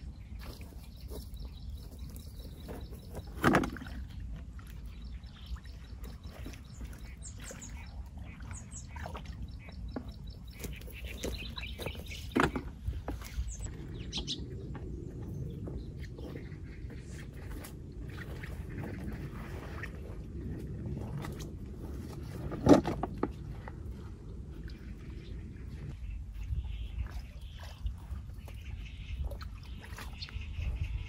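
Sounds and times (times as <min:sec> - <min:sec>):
birds chirping and trilling: 0:00.0 - 0:20.2, 0:24.4 - 0:31.0
steady low rumble: 0:00.0 - 0:31.0.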